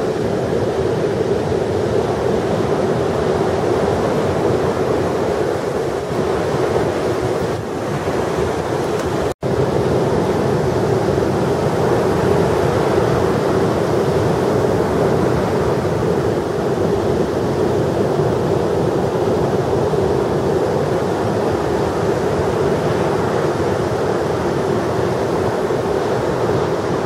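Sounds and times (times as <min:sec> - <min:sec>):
ocean waves breaking on beach: 0:00.0 - 0:27.0
wind on microphone: 0:00.0 - 0:27.0.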